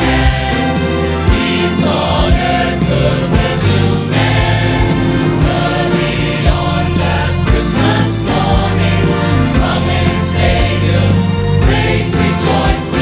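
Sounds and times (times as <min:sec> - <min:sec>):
band accompaniment: 0:00.0 - 0:13.0
church choir singing: 0:00.0 - 0:13.0.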